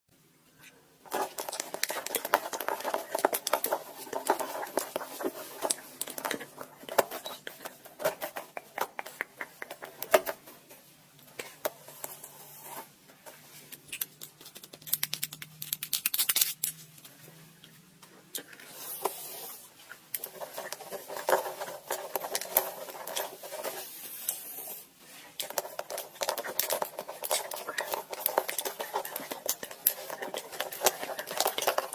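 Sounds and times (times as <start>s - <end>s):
close crackling and scratching: 0.6s - 16.9s, 18.3s - 31.9s.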